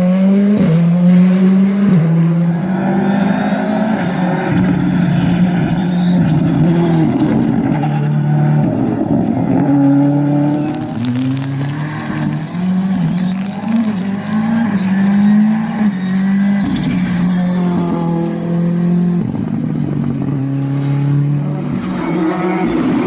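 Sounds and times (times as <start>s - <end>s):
rally car engine accelerating: 0.0s - 23.0s.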